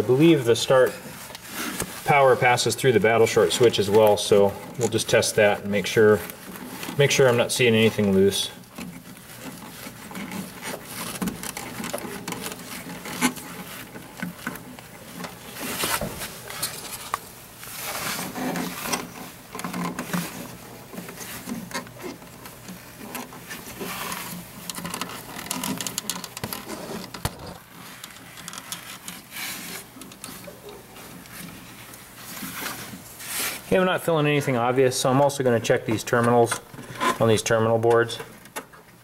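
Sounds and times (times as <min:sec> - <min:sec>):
wires rustling and clicking: 0:00.0 - 0:39.0.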